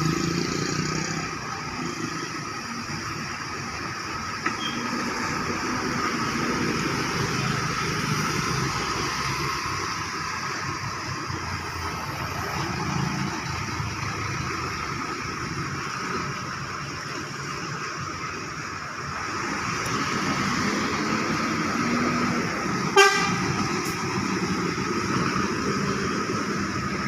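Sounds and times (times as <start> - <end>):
continuous traffic hiss: 0.0 - 27.0
vehicle engines running: 0.0 - 27.0.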